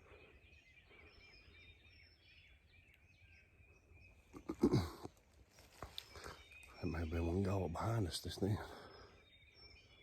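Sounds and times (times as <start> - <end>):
songbird chorus: 0.0 - 10.0.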